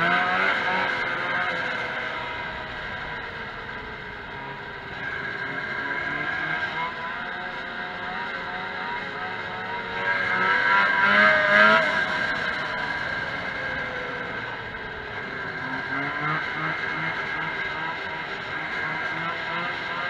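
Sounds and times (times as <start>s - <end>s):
snowmobile engine running: 0.0s - 20.0s.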